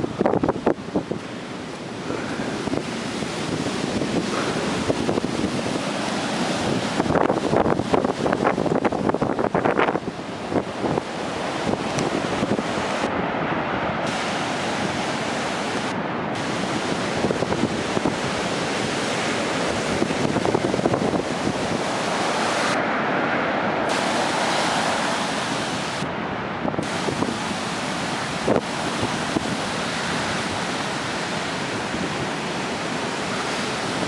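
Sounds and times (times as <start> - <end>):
storm surf crashing: 0.0 - 34.0
wind buffeting microphone: 0.0 - 34.0.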